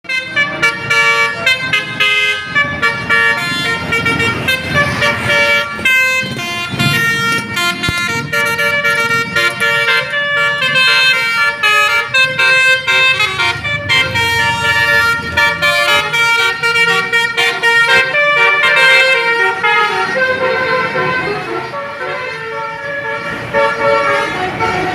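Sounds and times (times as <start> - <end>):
multi-tone air horn tune: 0.0 - 24.9.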